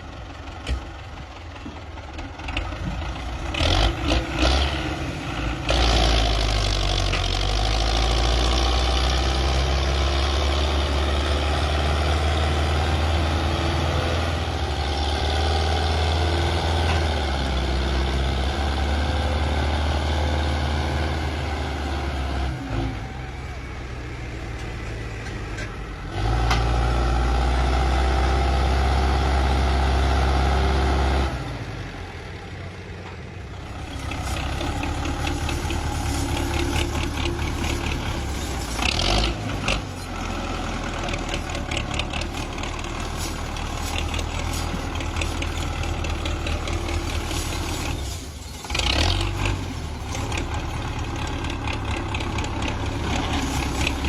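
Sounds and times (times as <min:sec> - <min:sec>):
tractor diesel engine clattering: 0:00.0 - 0:54.0.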